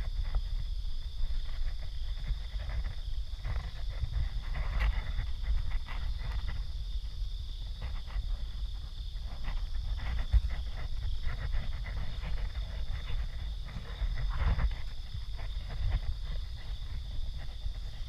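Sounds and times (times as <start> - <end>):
night insects chorus: 0.0 - 18.0
rustling through vegetation: 0.0 - 18.0.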